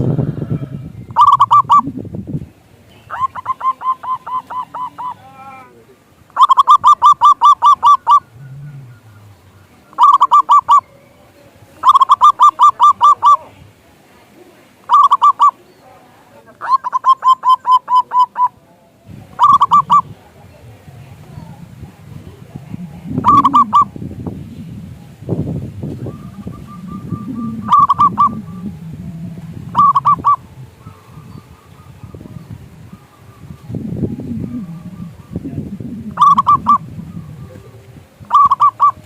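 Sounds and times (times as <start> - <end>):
dove cooing: 0.0 - 1.9, 3.1 - 11.0, 11.8 - 13.6, 14.4 - 15.7, 16.6 - 39.0.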